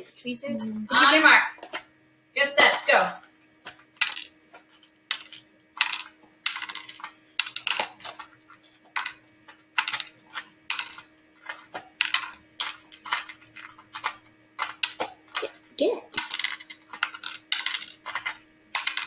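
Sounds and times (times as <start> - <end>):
dried beans clattering on plastic: 2.6 - 19.0.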